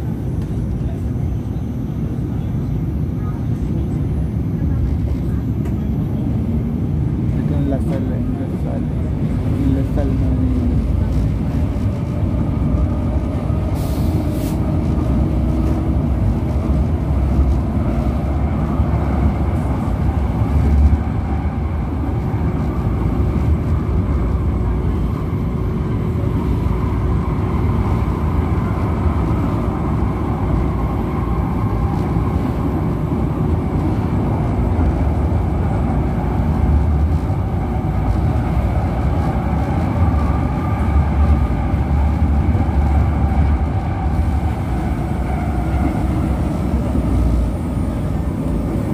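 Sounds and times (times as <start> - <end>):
train rumbling on track: 0.0 - 48.9.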